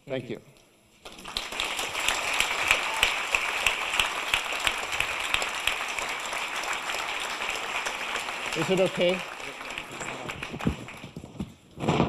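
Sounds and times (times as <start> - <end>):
audience applauding: 1.0 - 11.4.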